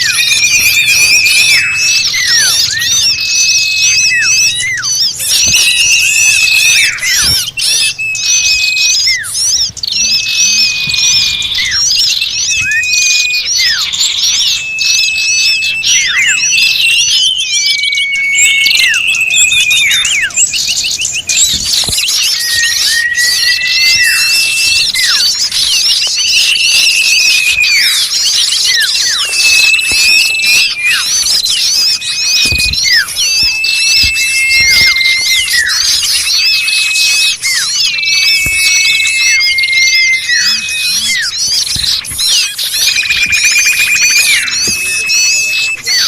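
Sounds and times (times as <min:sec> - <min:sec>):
small birds chirping: 0:00.0 - 0:46.0
whistled bird note: 0:00.0 - 0:46.0.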